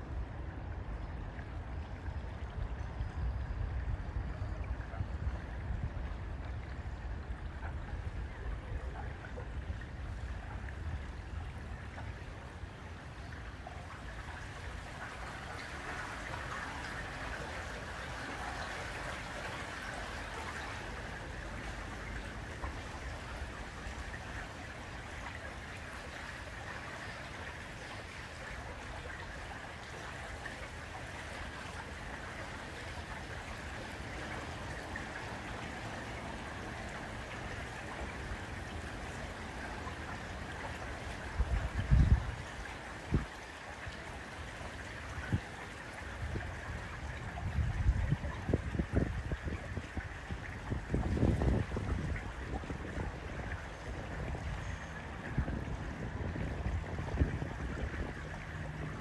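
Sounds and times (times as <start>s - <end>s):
water rippling against boat hull: 0.0s - 59.0s.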